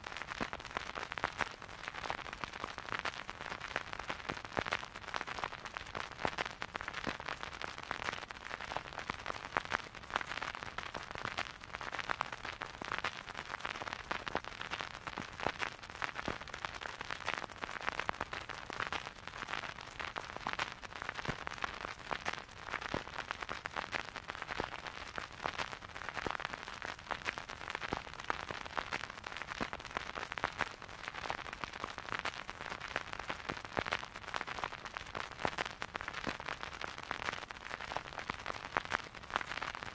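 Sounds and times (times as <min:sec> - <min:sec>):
vinyl record hiss and crackle: 0:00.0 - 0:39.9
vinyl record pops: 0:00.0 - 0:39.9.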